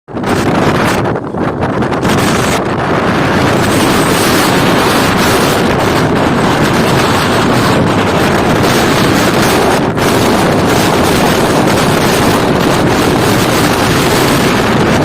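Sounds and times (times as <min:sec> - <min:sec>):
strong wind on microphone: 0:00.1 - 0:15.0.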